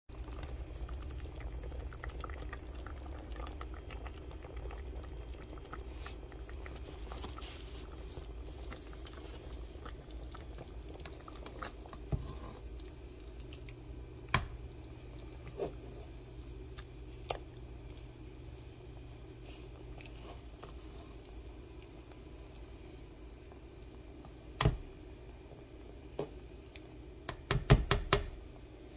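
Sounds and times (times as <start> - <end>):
gravy simmering in a pot: 0.1 - 28.9.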